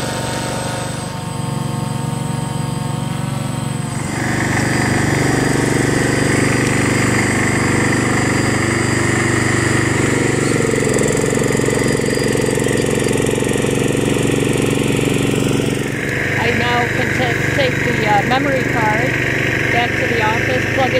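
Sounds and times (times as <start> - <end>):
drone propellers whirring: 0.0 - 20.9.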